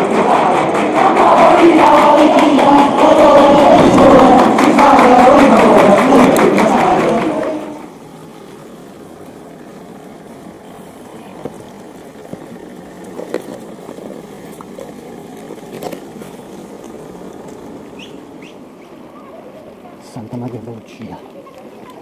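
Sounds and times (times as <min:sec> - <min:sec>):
crowd noise: 0:00.0 - 0:22.0
vehicle engine running: 0:00.0 - 0:22.0.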